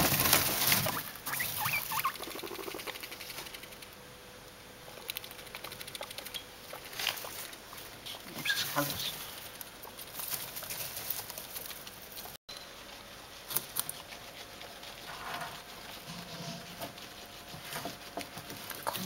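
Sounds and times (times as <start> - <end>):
guinea pigs rustling through hay: 0.0 - 3.9, 6.0 - 19.0
guinea pigs nibbling: 0.0 - 19.0.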